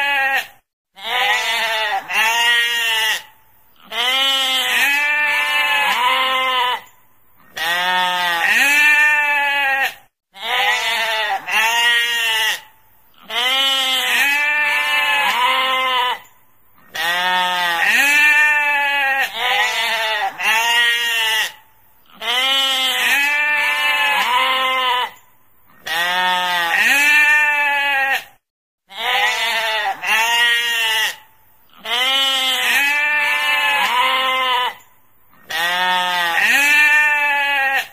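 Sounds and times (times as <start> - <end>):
sheep bleating: 0.0 - 37.9.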